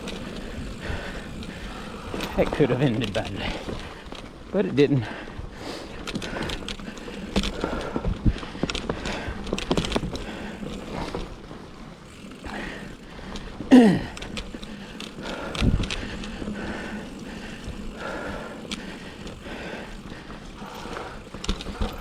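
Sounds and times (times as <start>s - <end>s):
bike rattling and knocking: 0.0s - 22.0s
tyre and wind noise: 0.0s - 22.0s.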